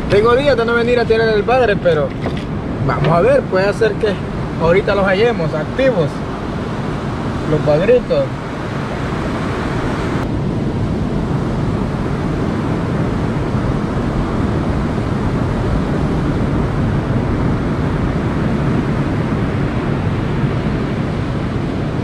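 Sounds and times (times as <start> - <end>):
heavy surf breaking: 0.0 - 22.0
wind on microphone: 0.0 - 22.0.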